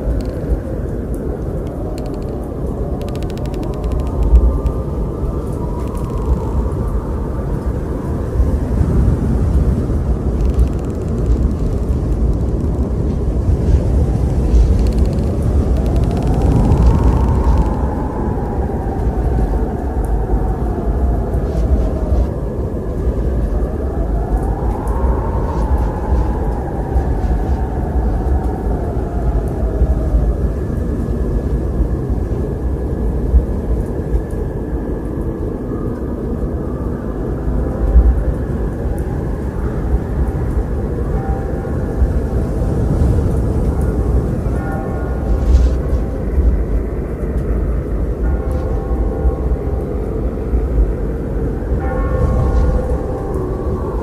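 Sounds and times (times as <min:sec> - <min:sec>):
wind rumbling: 0:00.0 - 0:54.0.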